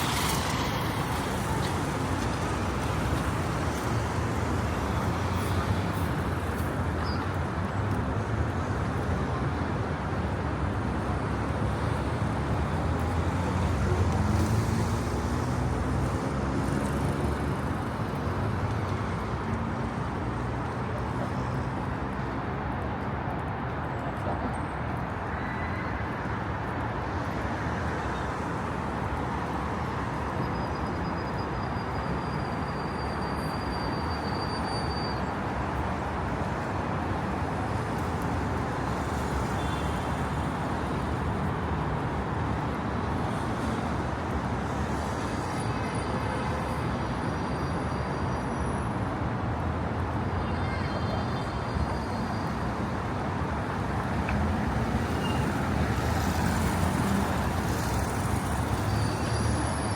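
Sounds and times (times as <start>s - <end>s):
urban traffic noise: 0.0s - 59.9s.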